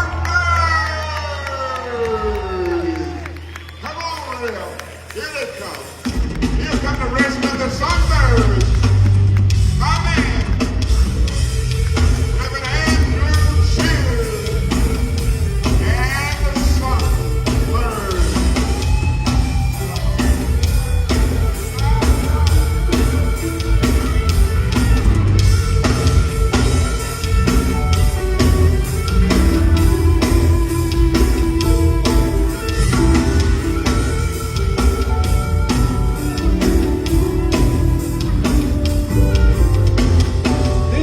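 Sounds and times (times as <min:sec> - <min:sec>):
gospel band playing: 0:00.0 - 0:41.0.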